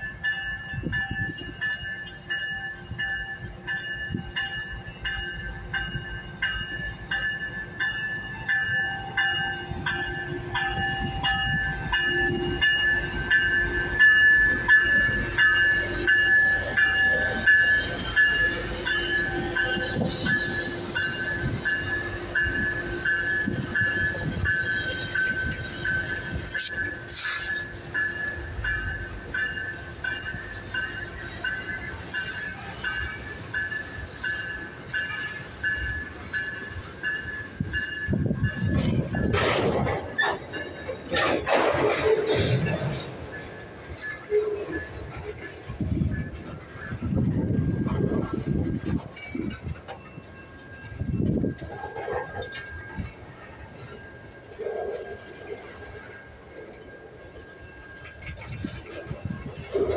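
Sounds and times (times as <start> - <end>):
locomotive rumble: 0.0 - 59.9
wheels clicking over rail joints: 7.8 - 59.9.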